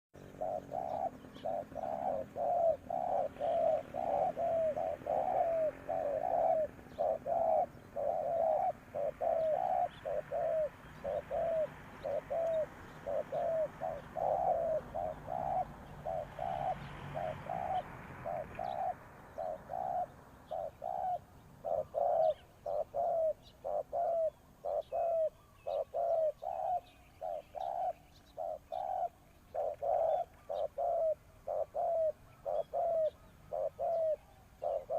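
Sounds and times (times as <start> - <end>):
dove cooing: 0.2 - 34.9.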